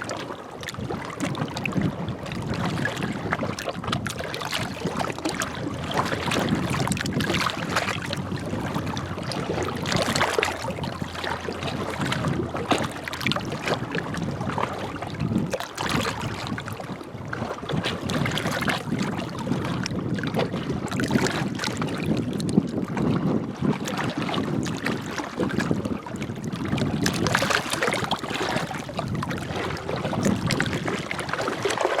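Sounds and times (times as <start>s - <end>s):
small waves lapping shore: 0.0s - 32.0s.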